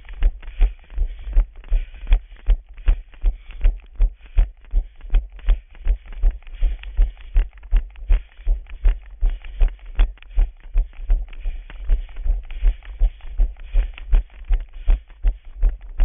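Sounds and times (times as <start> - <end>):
running footsteps on stone: 0.0 - 16.0.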